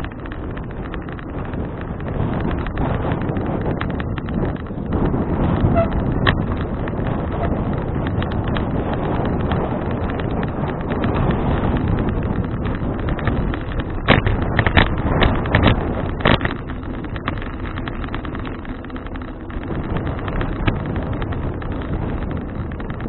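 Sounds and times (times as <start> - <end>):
bicycle tyre rumble: 0.0 - 23.0
sharp knocks and rattles: 0.0 - 23.0
wind buffeting microphone: 0.0 - 23.0.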